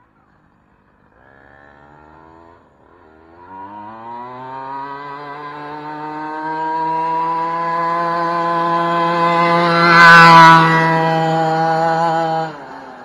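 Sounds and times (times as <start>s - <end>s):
rc truck engine approaching: 0.2s - 13.0s.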